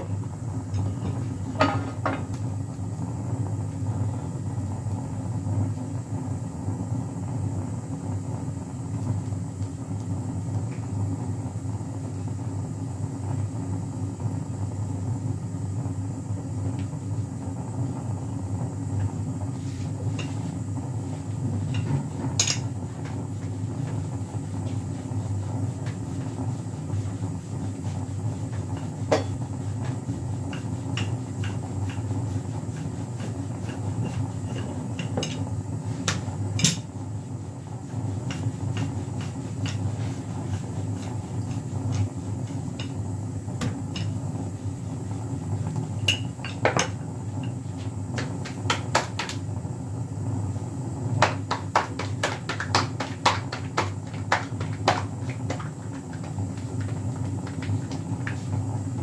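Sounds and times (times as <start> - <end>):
gas burners rumbling: 0.0 - 59.0.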